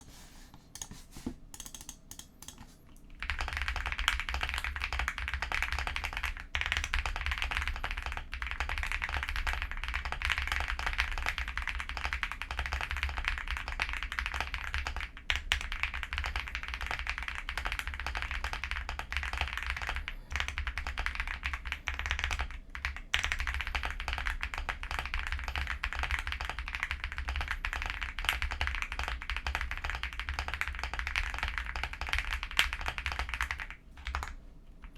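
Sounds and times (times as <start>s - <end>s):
mechanical keyboard typing: 0.8s - 34.9s.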